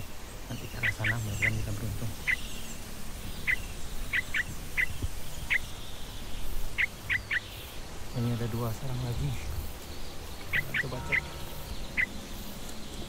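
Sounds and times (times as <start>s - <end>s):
bird call notes: 0.0s - 13.0s.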